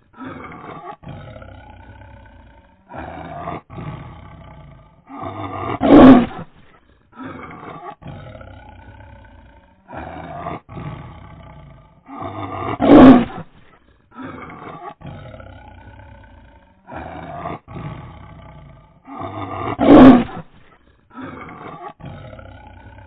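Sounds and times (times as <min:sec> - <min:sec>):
tiger roaring: 0:00.0 - 0:23.0.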